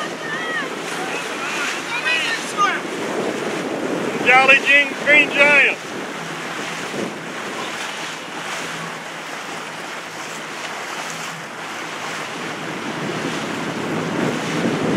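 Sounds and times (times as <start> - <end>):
wind noise on microphone: 0.0 - 11.4, 12.0 - 14.9
waves washing: 0.0 - 14.9.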